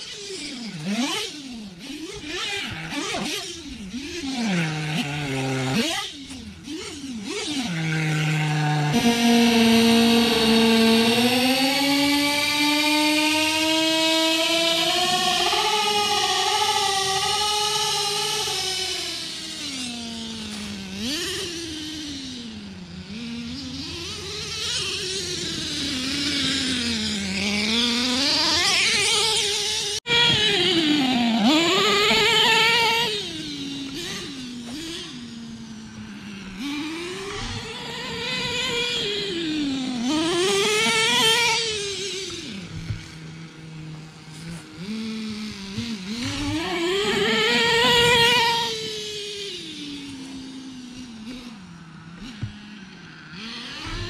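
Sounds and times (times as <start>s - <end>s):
small nitro engine revving: 0.0s - 54.0s.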